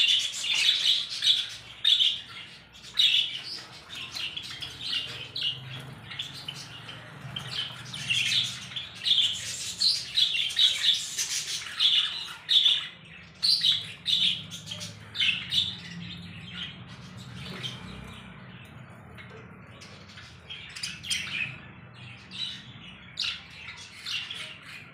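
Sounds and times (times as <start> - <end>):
small birds chirping and squawking: 0.0 - 24.9.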